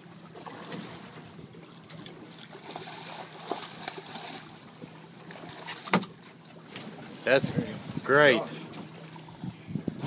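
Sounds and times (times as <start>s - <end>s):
water splashing around a boat: 0.0s - 10.0s.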